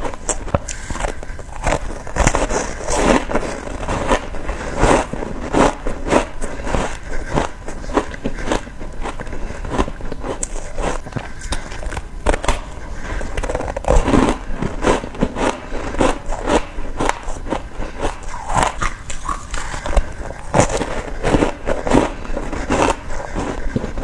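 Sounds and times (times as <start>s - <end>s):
ice crunching while chewed: 0.0s - 24.0s.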